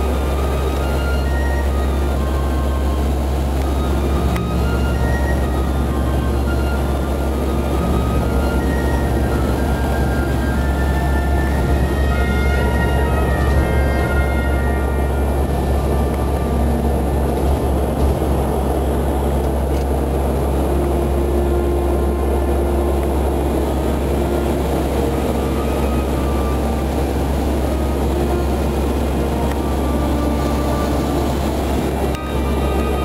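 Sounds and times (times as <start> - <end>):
aircraft engines droning: 0.0 - 33.0.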